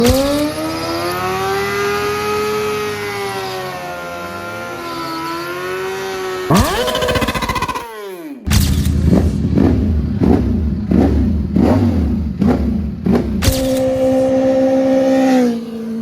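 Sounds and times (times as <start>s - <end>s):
motorcycle passing by: 0.0s - 8.5s, 9.1s - 16.0s
motorcycle engine at high revs: 0.0s - 16.0s.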